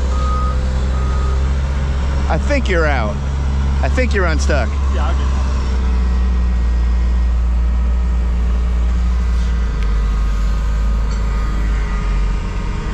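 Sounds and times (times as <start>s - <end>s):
forklift engine droning: 0.0s - 12.9s.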